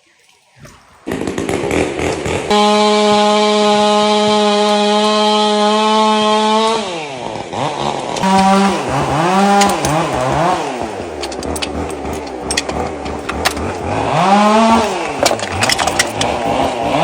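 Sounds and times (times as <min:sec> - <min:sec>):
chainsaw revving and idling: 0:01.0 - 0:17.0.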